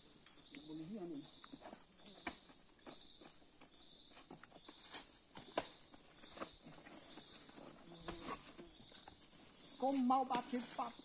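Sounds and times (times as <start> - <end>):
forest insect drone: 0.0 - 11.0.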